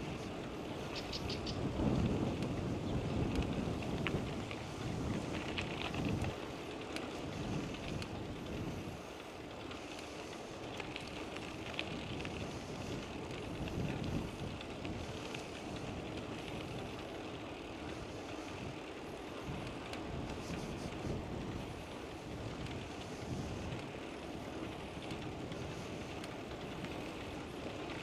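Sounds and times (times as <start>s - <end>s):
bicycle clicks and rattles: 0.0s - 28.0s
road noise: 0.0s - 28.0s
wind buffeting microphone: 0.0s - 28.0s.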